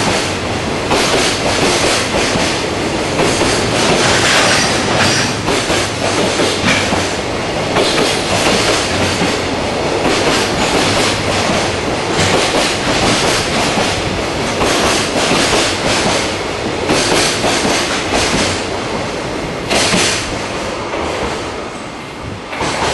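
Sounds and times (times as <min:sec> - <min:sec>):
freight train wheels clattering: 0:00.0 - 0:21.5, 0:22.4 - 0:22.9.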